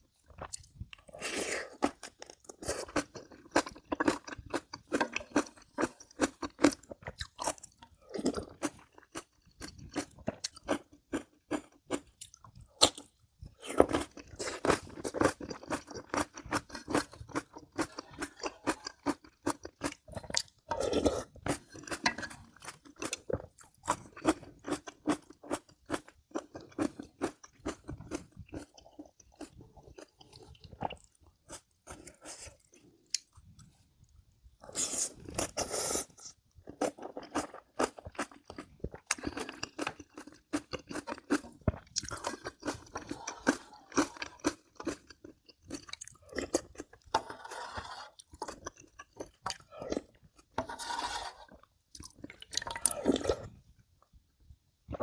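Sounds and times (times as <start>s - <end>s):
person chewing crunchy food: 0.0s - 53.8s.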